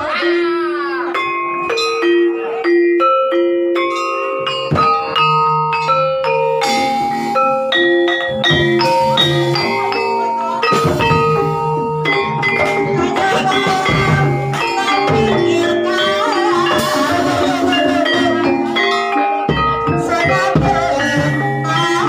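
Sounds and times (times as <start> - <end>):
gamelan music: 0.0 - 22.0.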